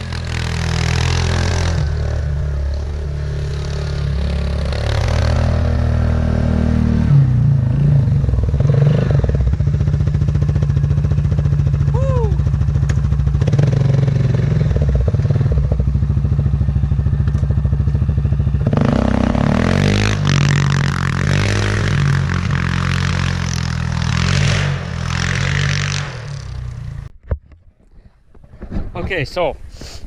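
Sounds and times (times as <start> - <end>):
quad bike engine: 0.0 - 27.1.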